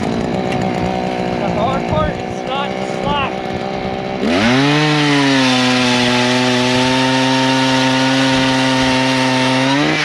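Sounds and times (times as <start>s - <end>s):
power ice auger boring: 0.0s - 10.0s.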